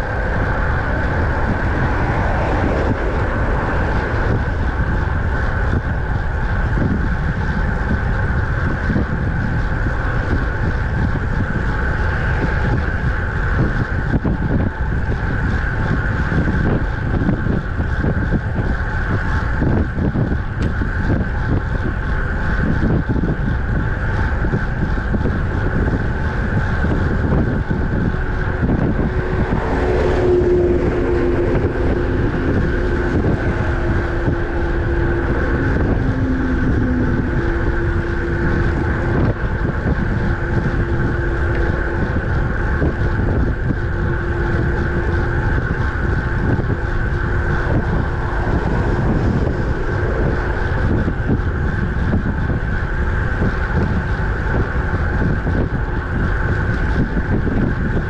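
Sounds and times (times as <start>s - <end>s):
road noise: 0.0s - 58.0s
steady low hum: 0.0s - 58.0s
wind buffeting microphone: 0.0s - 58.0s.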